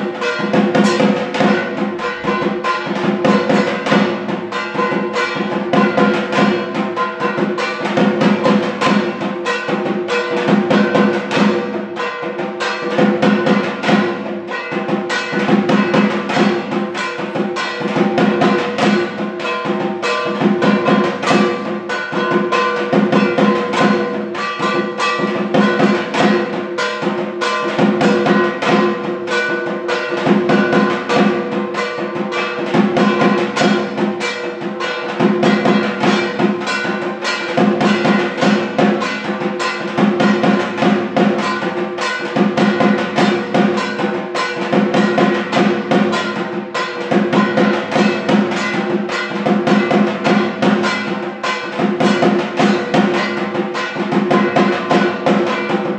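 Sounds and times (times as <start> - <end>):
barrel drum beaten with sticks: 0.0 - 55.9.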